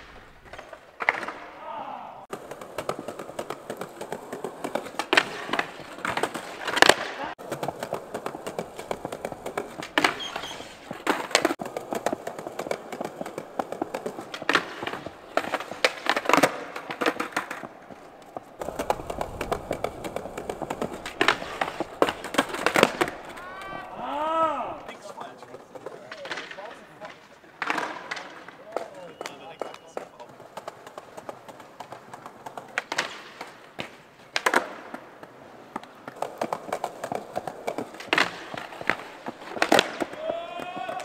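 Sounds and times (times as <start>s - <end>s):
skateboard wheels rolling on paving: 0.0s - 1.6s, 2.3s - 41.0s
skateboard clacking down: 2.3s - 41.0s.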